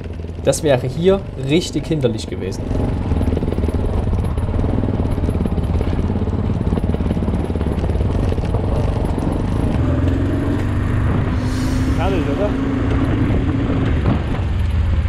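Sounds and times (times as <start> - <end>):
motorcycle engine running low speed: 0.0 - 15.0.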